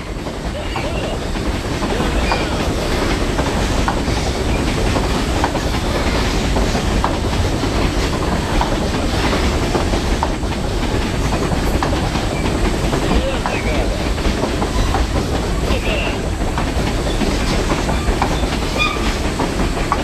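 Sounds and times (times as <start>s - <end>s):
freight train rumbling past: 0.0s - 20.0s
wheel clicks over rails: 0.0s - 20.0s.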